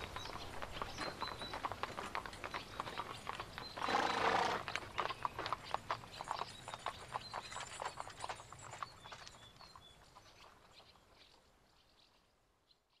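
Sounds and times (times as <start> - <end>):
hooves clip-clopping on hard surface: 0.0 - 12.3.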